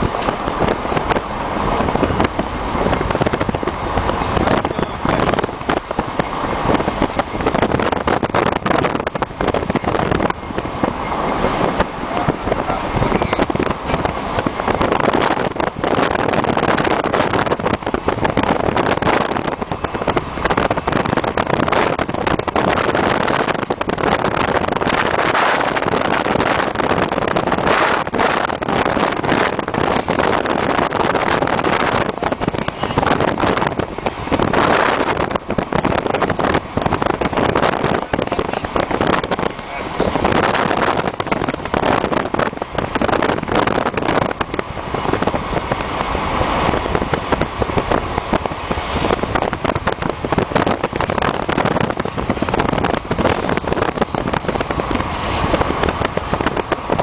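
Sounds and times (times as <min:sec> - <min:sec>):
car road noise: 0:00.0 - 0:57.0
wind buffeting microphone: 0:00.0 - 0:57.0.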